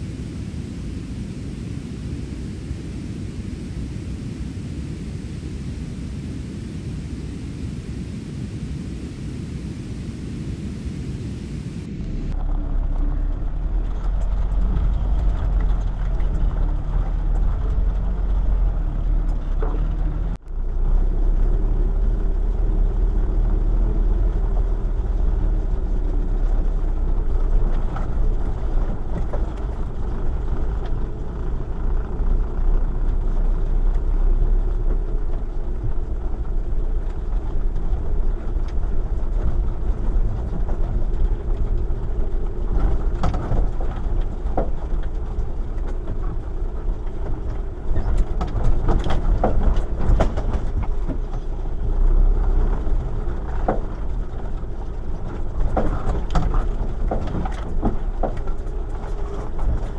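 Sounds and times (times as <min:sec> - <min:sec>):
van engine droning: 0:00.0 - 0:59.9.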